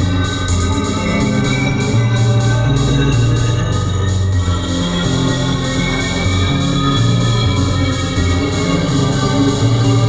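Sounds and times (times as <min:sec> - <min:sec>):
bass line: 0:00.0 - 0:10.0
light steady beat: 0:00.0 - 0:10.0
organ-like keyboard chords: 0:00.0 - 0:10.0.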